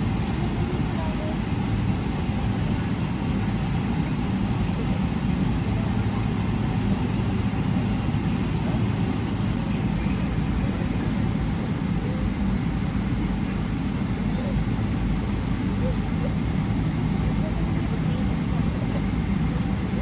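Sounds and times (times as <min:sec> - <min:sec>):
airplane cabin engine rumble and hiss: 0:00.0 - 0:20.0.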